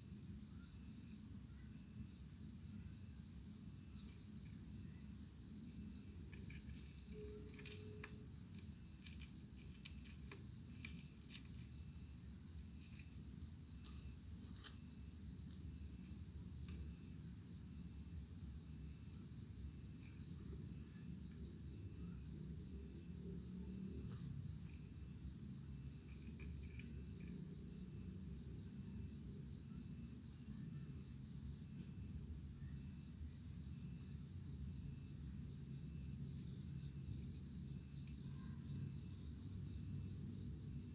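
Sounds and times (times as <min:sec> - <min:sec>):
cricket trilling: 0:00.0 - 0:40.9.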